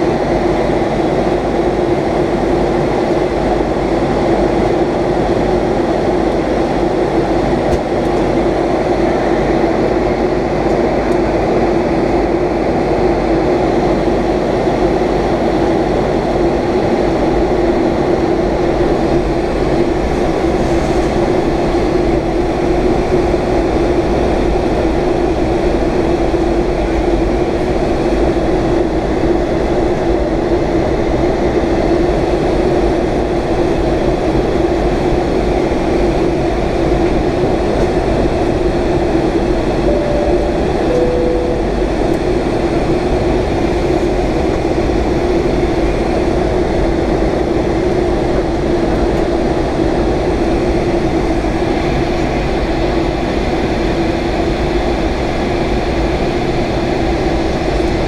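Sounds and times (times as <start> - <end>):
airliner cabin noise: 0.0 - 58.0
constant low hum: 0.0 - 58.0.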